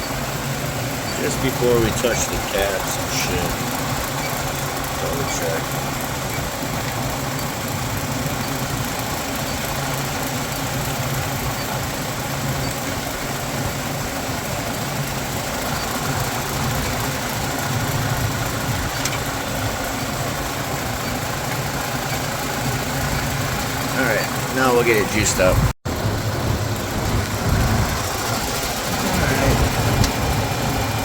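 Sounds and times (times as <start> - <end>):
refrigeration machinery hum: 0.0 - 31.0.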